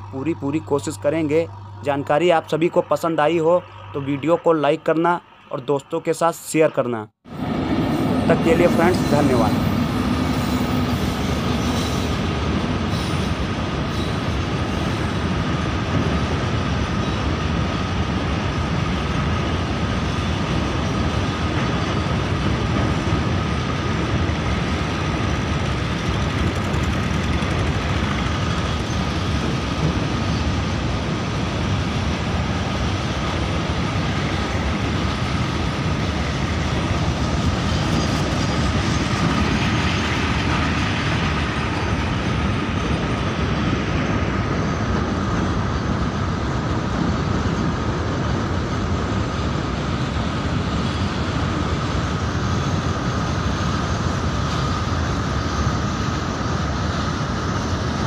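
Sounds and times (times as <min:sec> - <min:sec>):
train wheels rumbling on rails: 0:07.3 - 0:58.0.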